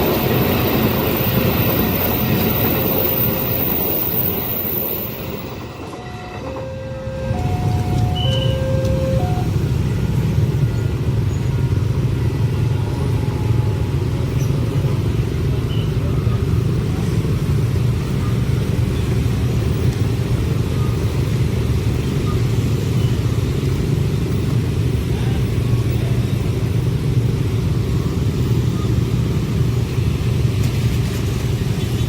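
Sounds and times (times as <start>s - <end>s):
train passing with low rumble: 0.0s - 32.0s.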